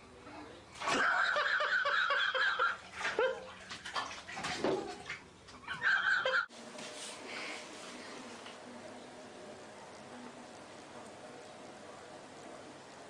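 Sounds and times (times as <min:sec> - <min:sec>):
water splashing in bathtub: 0:00.7 - 0:12.8.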